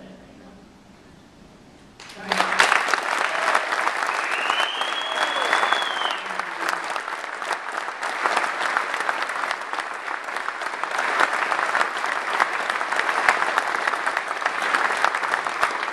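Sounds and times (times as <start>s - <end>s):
audience applauding: 2.0s - 15.9s.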